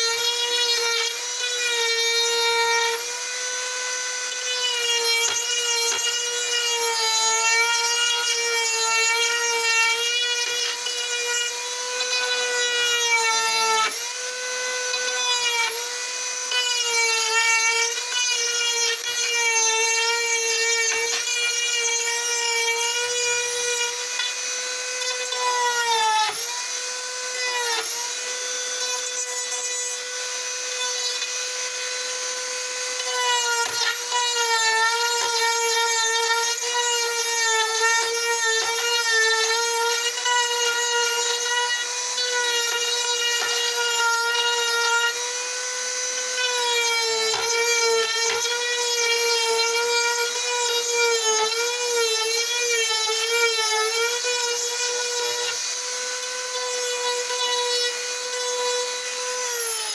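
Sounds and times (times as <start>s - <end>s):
rotary tool whining cutting wood: 0.0s - 59.9s.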